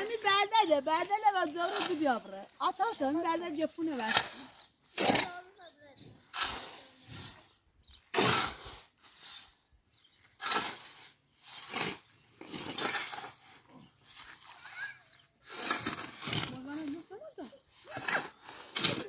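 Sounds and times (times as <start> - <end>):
shovels scraping cement and sand: 0.0 - 19.0.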